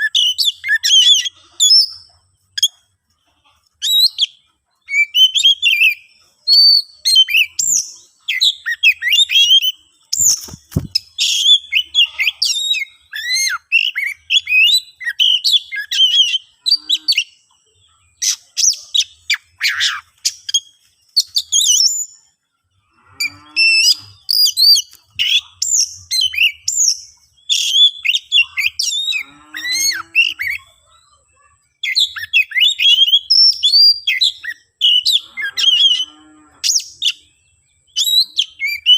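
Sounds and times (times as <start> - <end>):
bird singing whistles and chirps: 0.0 - 2.9, 3.8 - 22.2, 23.1 - 30.8, 31.8 - 38.9.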